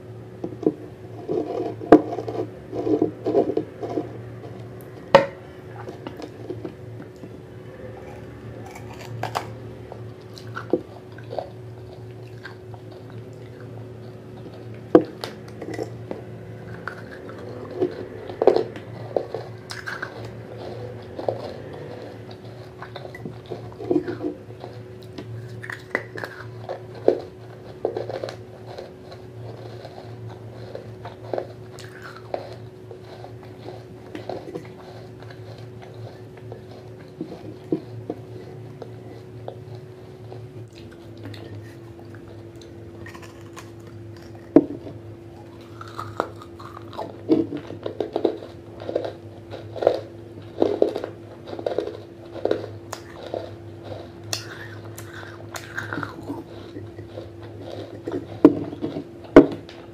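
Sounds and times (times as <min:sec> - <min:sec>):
crunching and chewing clay: 0:00.0 - 0:59.9.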